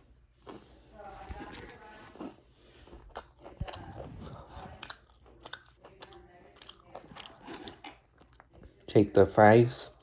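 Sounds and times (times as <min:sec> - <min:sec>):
person chewing crunchy food: 0:00.0 - 0:08.9.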